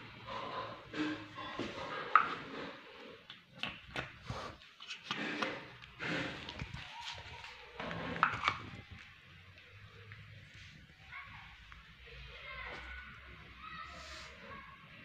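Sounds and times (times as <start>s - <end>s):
cats moving and eating on tiles: 0.0s - 15.0s.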